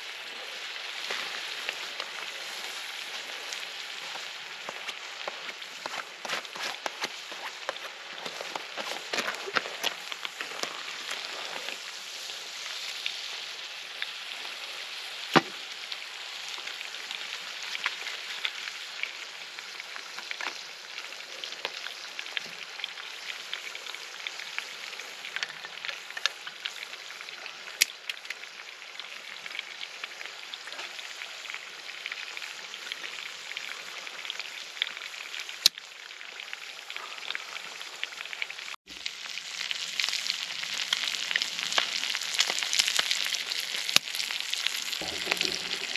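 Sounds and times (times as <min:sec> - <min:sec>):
food sizzling in a hot pan: 0:00.0 - 0:45.9.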